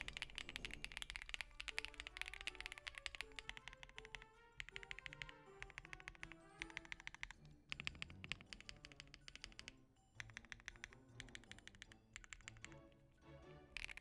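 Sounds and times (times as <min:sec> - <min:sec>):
mechanical keyboard typing: 0:00.0 - 0:13.2, 0:13.8 - 0:14.0
soft background music: 0:00.0 - 0:14.0.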